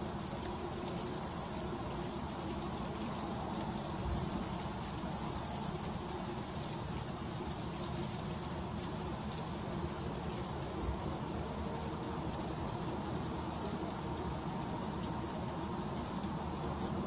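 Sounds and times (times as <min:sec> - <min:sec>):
freezing rain pattering: 0:00.0 - 0:17.0.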